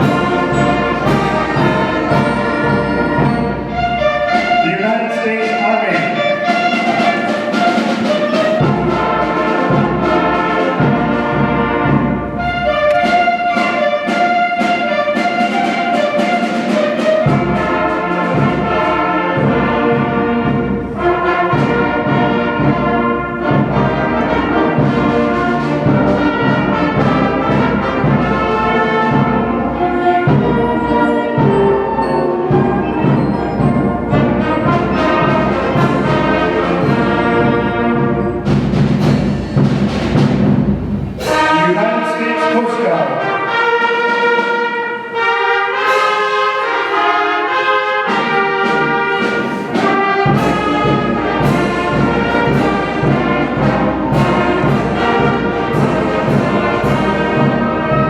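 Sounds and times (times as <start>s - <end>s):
concert band playing a march: 0.0s - 58.0s.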